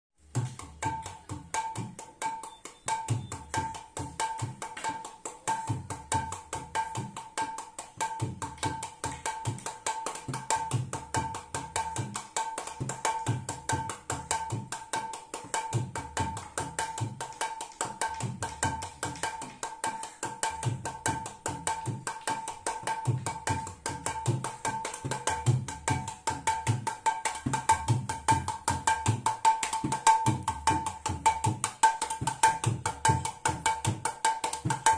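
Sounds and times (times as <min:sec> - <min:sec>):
hand drum playing: 0:00.3 - 0:34.9.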